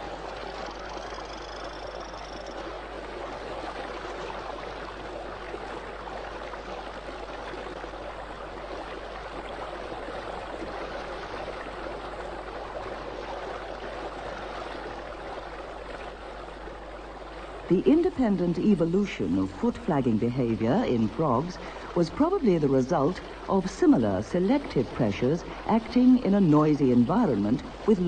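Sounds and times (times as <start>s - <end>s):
fast-flowing stream: 0.0s - 28.0s.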